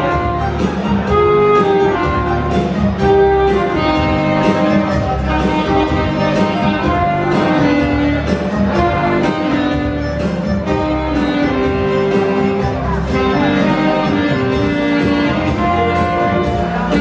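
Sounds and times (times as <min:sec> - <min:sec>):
alto saxophones duet: 0:00.0 - 0:17.0
steady beat: 0:00.0 - 0:17.0.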